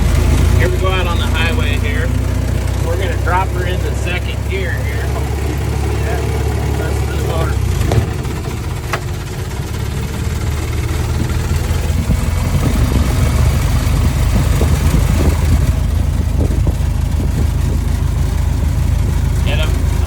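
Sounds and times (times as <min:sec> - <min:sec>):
old car engine lugging: 0:00.0 - 0:20.0.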